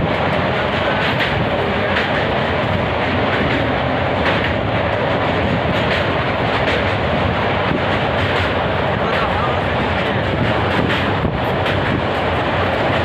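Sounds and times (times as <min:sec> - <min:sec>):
light rail clacks: 0:00.0 - 0:13.0
train wheels rumbling on bridge: 0:00.0 - 0:13.0.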